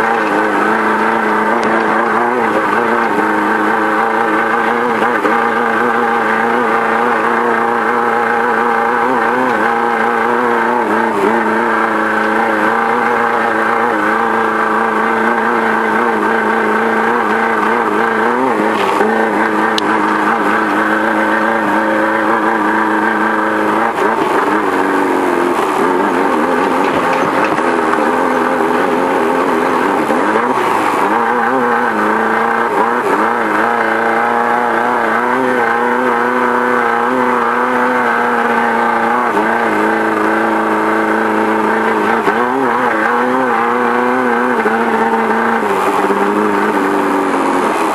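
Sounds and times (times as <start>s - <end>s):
race car engine revving: 0.0s - 47.9s
road and wind noise: 0.0s - 47.9s.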